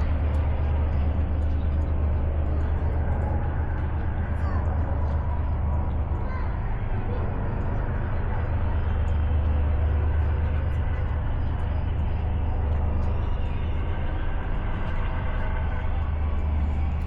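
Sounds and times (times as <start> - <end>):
low rumble: 0.0 - 17.0
outdoor noise: 0.0 - 17.0.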